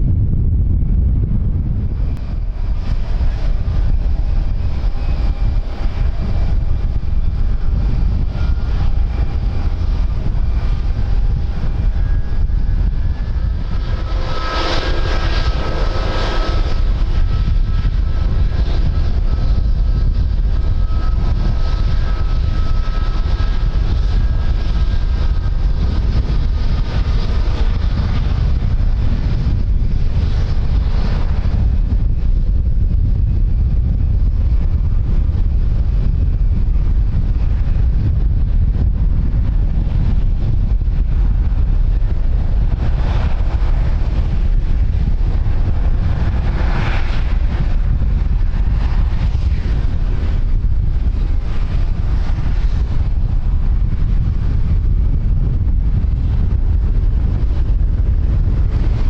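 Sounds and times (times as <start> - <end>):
aircraft engines whining: 0.0 - 59.0
wind buffeting microphone: 0.0 - 59.0.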